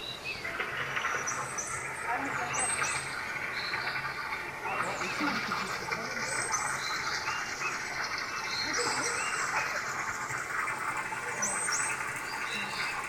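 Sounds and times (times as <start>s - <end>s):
bird chirps: 0.0s - 10.0s, 11.2s - 13.0s
insects chorus: 0.0s - 13.0s.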